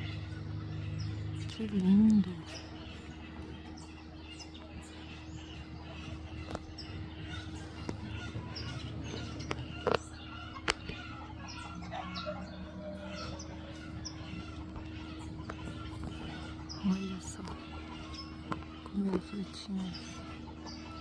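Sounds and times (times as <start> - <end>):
birds chirping and clucking: 0.0 - 21.0
steady low hum: 0.0 - 21.0.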